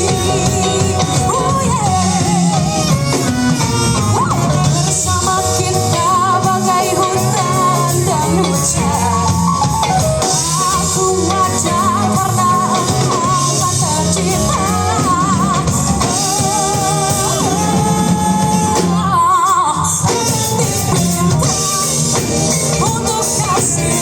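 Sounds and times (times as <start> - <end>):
band playing drums and guitar: 0.0 - 24.0
person singing with vibrato: 0.0 - 24.0.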